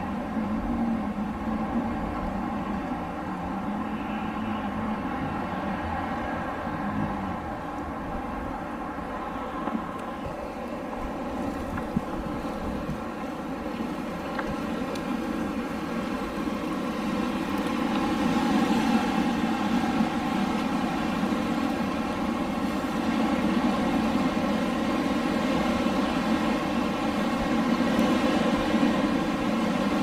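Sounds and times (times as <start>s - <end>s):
wind blowing: 0.0s - 30.0s.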